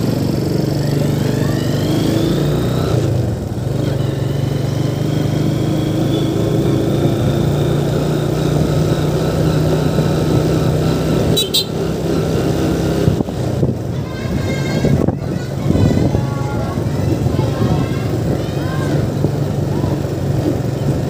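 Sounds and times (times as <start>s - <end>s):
motorcycle engine whining: 0.0s - 21.0s.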